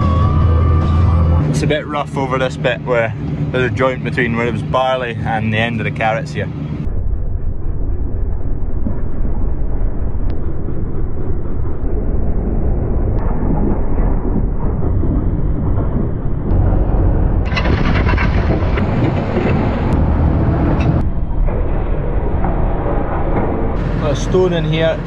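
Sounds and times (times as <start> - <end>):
tractor rumbling: 0.0 - 25.0.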